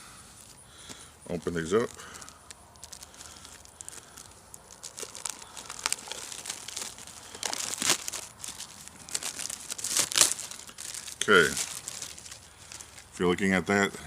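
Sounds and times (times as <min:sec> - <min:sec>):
paper plates crinkling: 0:00.4 - 0:13.2.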